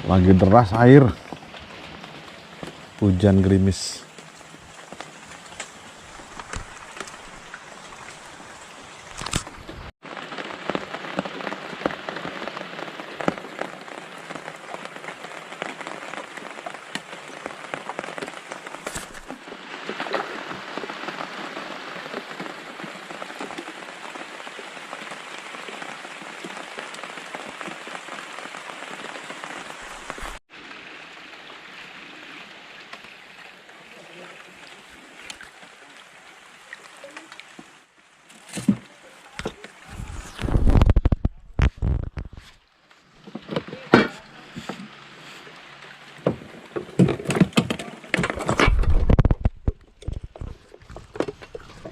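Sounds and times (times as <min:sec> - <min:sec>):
rain patter: 0:00.0 - 0:51.9.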